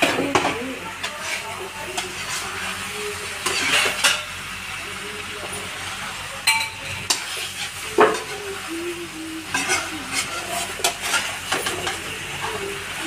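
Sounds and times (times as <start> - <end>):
chicken sizzling in pot: 0.0 - 13.0.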